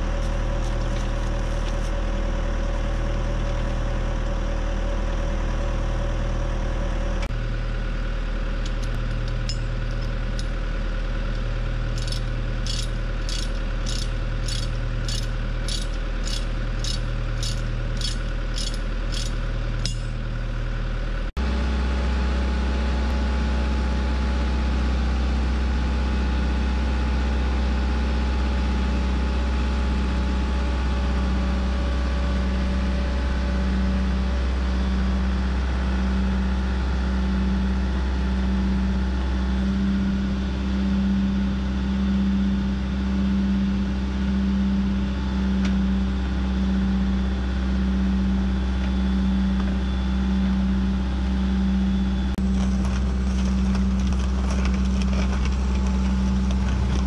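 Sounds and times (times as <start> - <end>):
low pulsing: 0.0 - 25.8, 29.4 - 57.0
excavator diesel engine running: 0.0 - 57.0.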